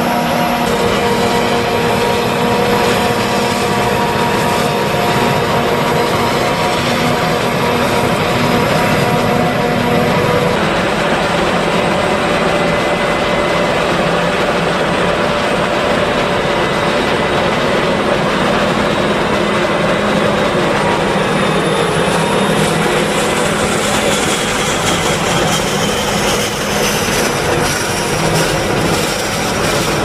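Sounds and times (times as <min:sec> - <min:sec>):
forage harvester drone: 0:00.0 - 0:30.0
tractor running: 0:00.0 - 0:30.0.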